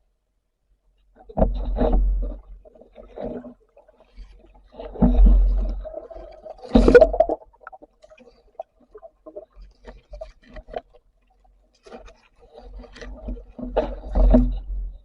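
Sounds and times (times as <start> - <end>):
underwater bubbling: 1.3 - 15.0.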